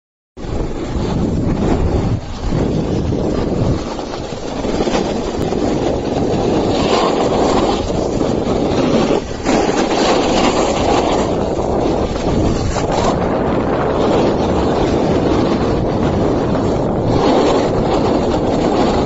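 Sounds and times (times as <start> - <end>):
sliding on packed snow: 0.4 - 19.0
wind buffeting microphone: 0.4 - 19.0.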